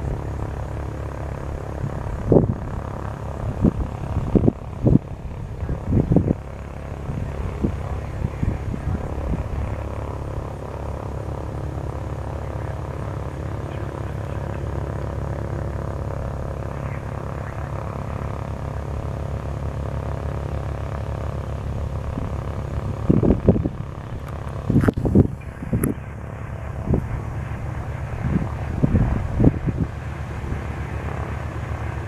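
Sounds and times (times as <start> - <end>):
light aircraft engine and propeller: 0.0 - 32.0.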